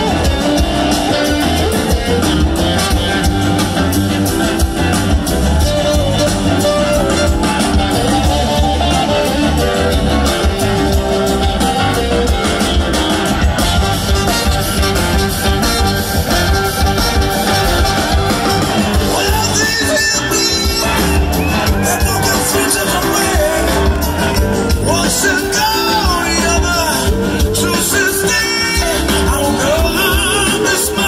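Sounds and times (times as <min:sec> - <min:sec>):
live blues-rock band: 0:00.0 - 0:31.0.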